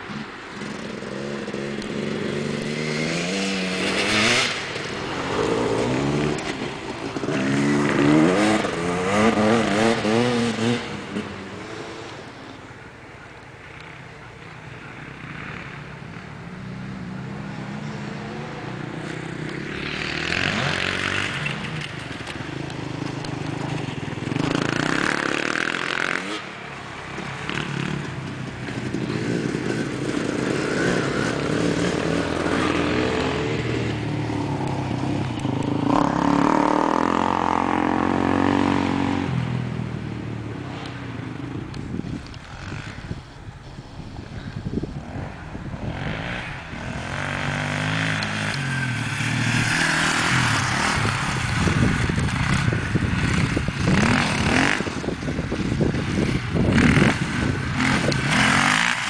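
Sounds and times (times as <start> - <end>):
motorcycle engines revving: 0.0 - 59.0.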